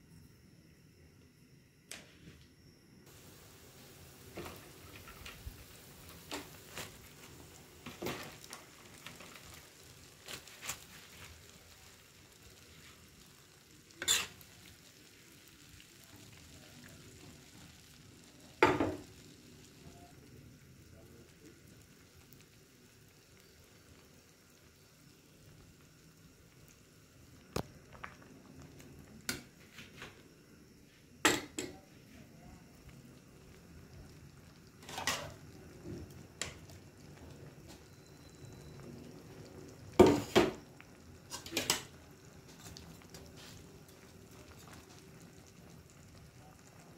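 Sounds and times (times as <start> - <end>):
broth simmering: 2.6 - 46.9.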